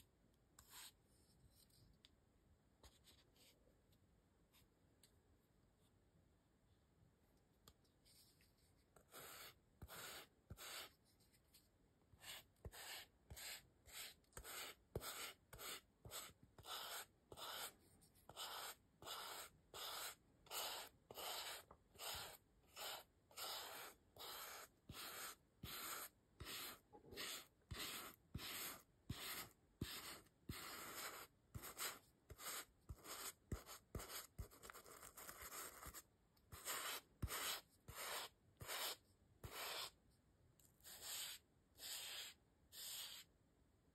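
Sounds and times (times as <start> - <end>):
paintbrush scratchy strokes on foam: 0.6 - 1.8, 7.8 - 40.0, 40.8 - 43.3.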